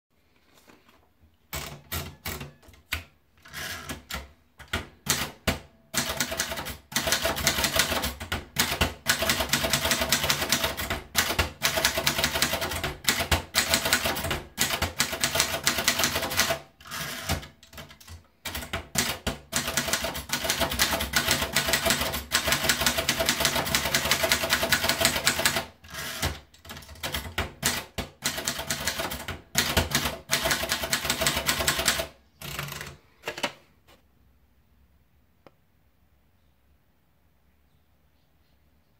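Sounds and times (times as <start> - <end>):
typewriter clattering: 1.5 - 33.6.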